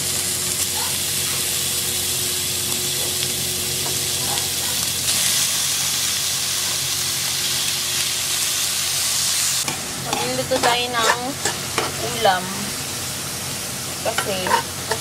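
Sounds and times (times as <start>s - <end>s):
beef sizzling in hot oil: 0.0s - 15.0s.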